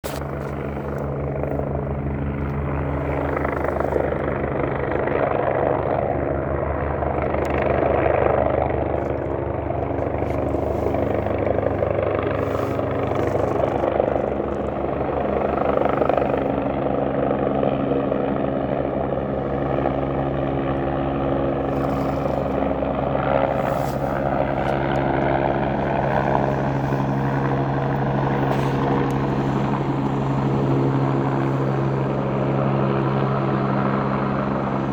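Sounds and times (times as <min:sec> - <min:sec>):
helicopter rotor beating: 0:00.0 - 0:34.9
helicopter engine tone: 0:00.1 - 0:34.9.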